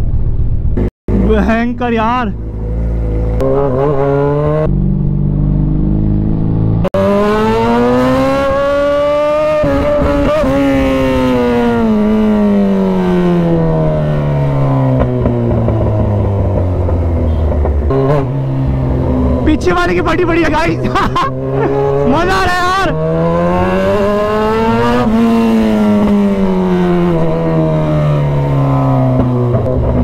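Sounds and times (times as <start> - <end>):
motorcycle engine revving: 0.5 - 30.0.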